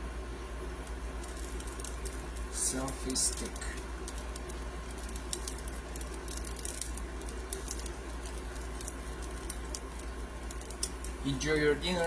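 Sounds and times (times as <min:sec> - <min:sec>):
steady low hum: 0:00.0 - 0:12.0
potatoes frying crackling: 0:00.3 - 0:12.0.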